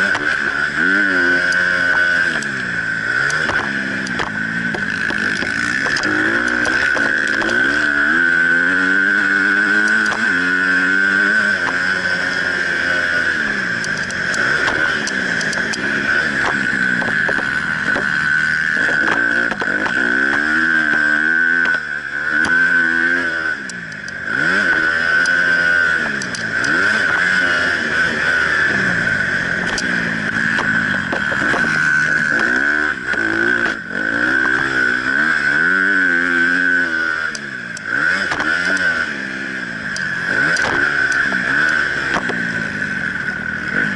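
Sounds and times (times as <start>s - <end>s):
dirt bike engine revving: 0.0s - 43.9s
steady high whine: 0.0s - 43.9s.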